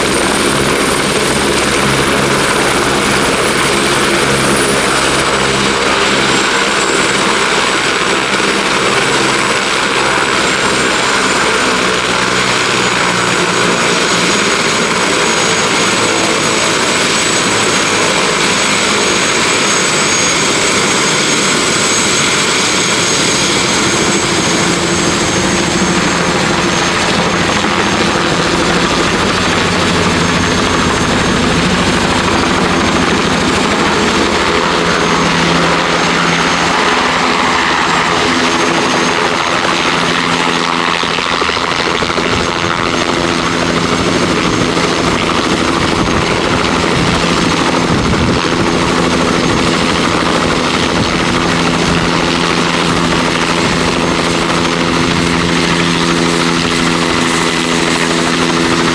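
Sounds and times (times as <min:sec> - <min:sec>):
helicopter engine and rotor: 0:00.0 - 0:58.9
high turbine whine: 0:00.0 - 0:58.9.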